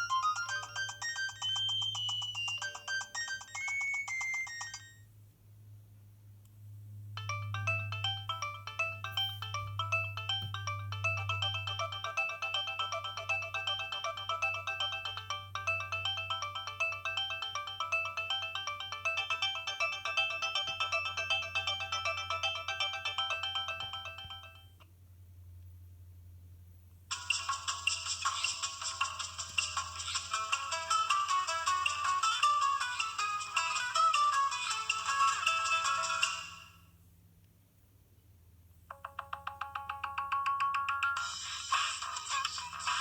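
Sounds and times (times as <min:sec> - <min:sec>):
mobile phone ringtone: 0:00.0 - 0:05.1, 0:07.2 - 0:24.8, 0:27.1 - 0:36.8, 0:38.9 - 0:43.0.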